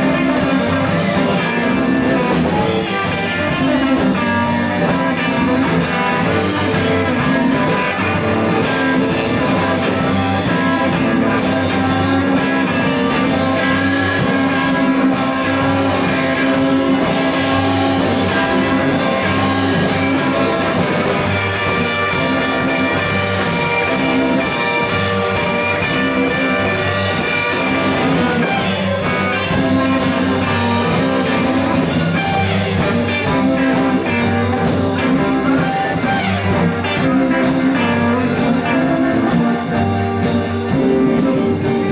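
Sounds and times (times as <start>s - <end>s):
electric guitar: 0.0s - 41.9s
live blues band playing: 0.0s - 41.9s.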